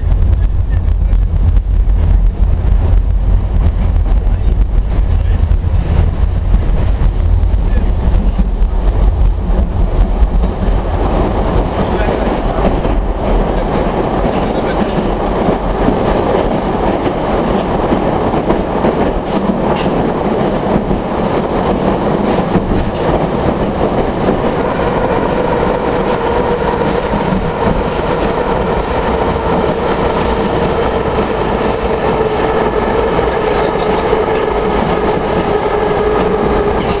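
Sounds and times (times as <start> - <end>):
train rumble and wheel noise: 0.0 - 37.0
train whine: 0.0 - 37.0.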